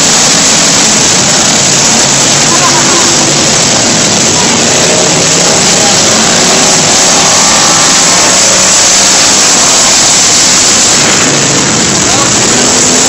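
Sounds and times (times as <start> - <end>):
stock car engines roaring: 0.0 - 13.0.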